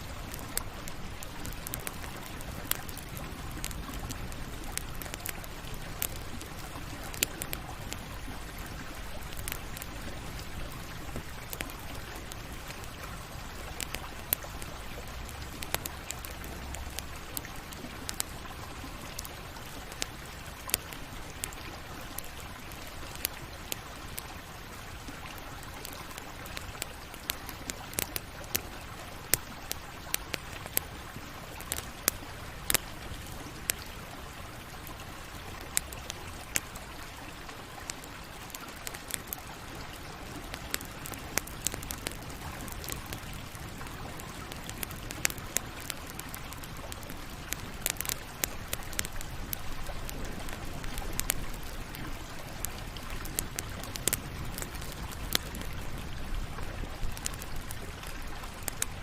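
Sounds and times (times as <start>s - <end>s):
campfire crackling and hissing: 0.0s - 59.0s.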